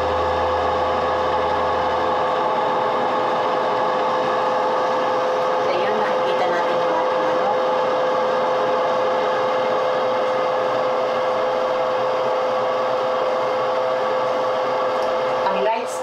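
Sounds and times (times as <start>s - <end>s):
air fryer fan whirring: 0.0s - 16.0s
constant hum: 0.0s - 16.0s.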